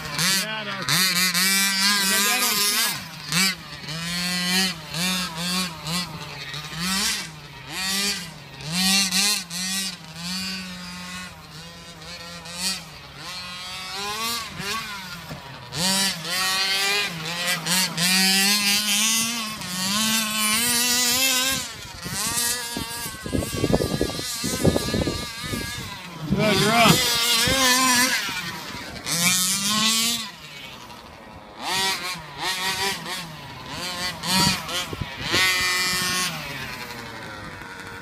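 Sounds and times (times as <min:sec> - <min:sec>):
two-stroke engine revving: 0:00.0 - 0:38.0.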